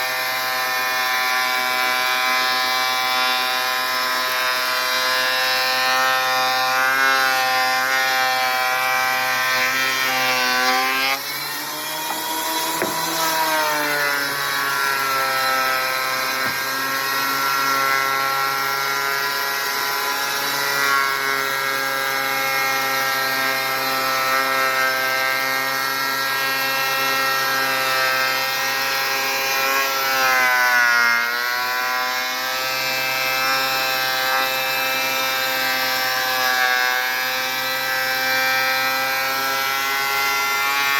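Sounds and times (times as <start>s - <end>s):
thickness planer motor whine: 0.0s - 40.9s.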